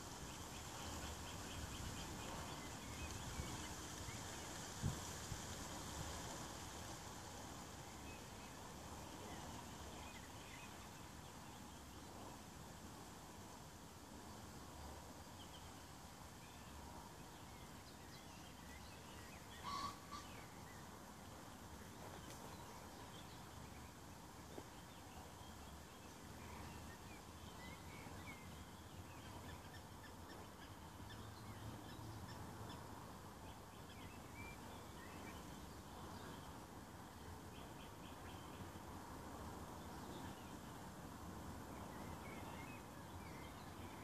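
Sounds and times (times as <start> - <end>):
distant birds chirping: 0.0 - 44.0.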